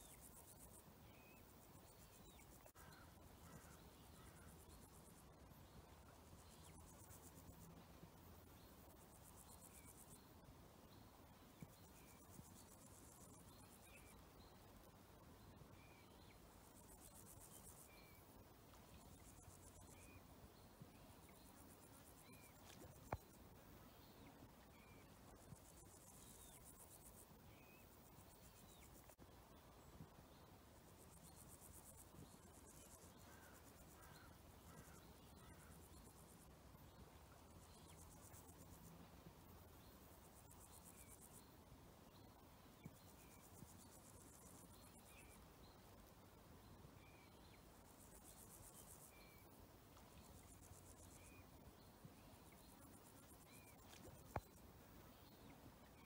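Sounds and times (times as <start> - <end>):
insects chirring: 0.0 - 56.0
soft background hiss: 0.0 - 56.0.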